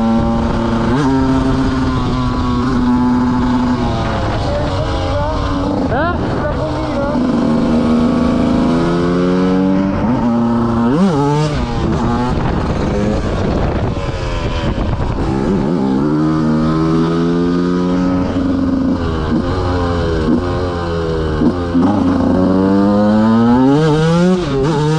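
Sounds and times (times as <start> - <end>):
motorcycle engine revving high: 0.0 - 24.9.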